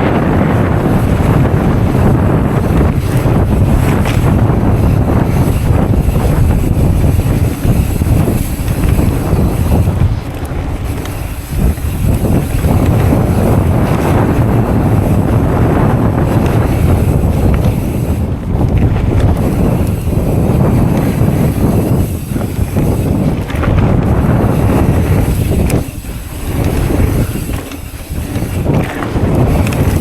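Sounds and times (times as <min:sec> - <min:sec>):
wind buffeting a microphone: 0:00.0 - 0:30.0.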